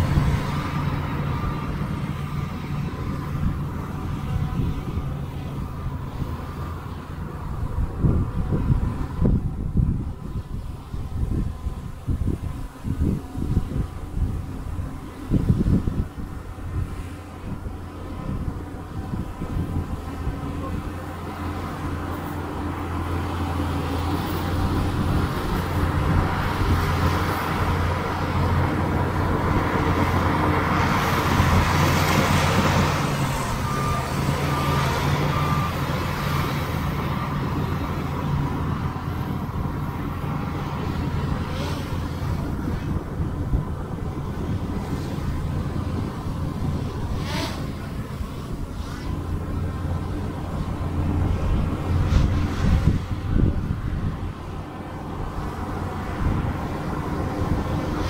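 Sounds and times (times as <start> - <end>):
bulldozer diesel engine: 0.0 - 58.0
bulldozer pushing dirt: 0.0 - 58.0.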